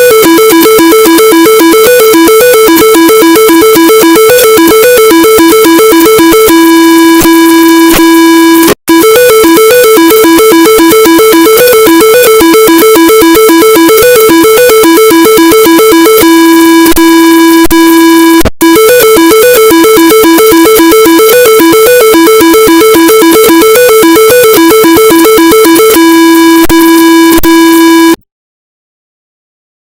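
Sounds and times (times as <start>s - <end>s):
buzzy synthesized alert alarm: 0.0s - 28.1s.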